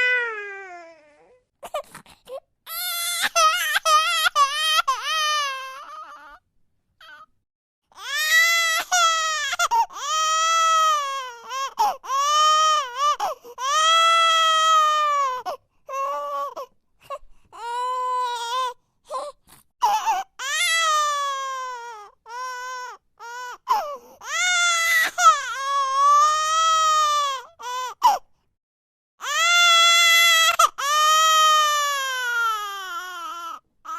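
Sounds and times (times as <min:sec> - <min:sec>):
baby crying: 0:00.0 - 0:06.4, 0:07.0 - 0:07.3, 0:07.9 - 0:28.2, 0:29.2 - 0:33.9.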